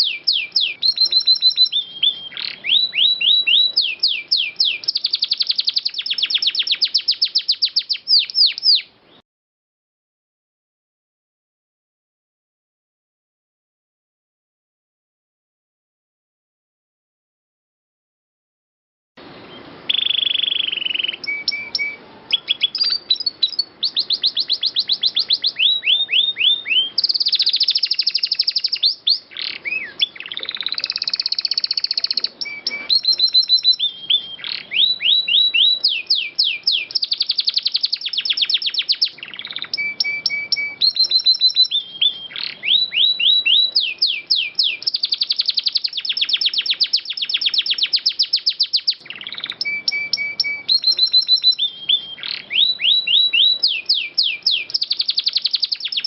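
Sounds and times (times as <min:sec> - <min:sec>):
canary singing trills: 0:00.0 - 0:09.2, 0:19.2 - 0:56.0.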